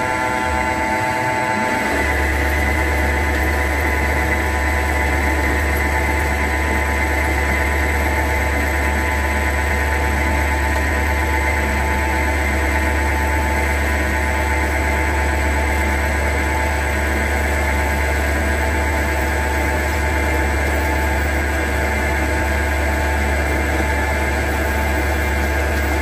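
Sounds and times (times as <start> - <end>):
lathe humming and whining: 0.0 - 26.0.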